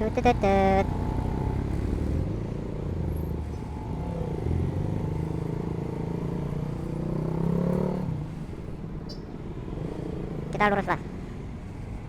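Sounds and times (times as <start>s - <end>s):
motorcycle engine accelerating: 0.0s - 11.9s.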